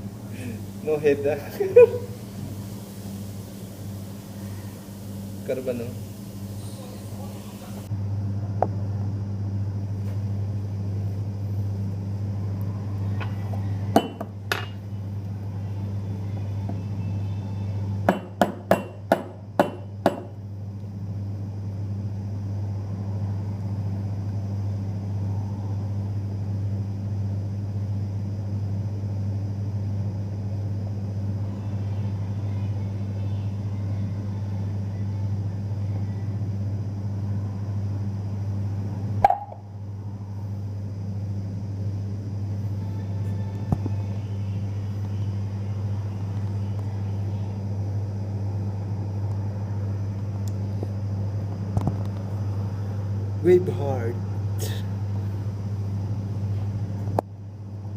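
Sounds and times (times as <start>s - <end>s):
coffee maker humming: 0.0s - 57.9s.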